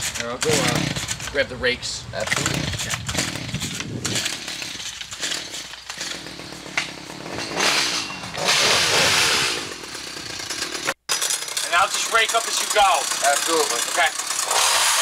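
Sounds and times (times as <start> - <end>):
hedge trimmer engine revving: 0.0 - 1.4, 2.2 - 15.0.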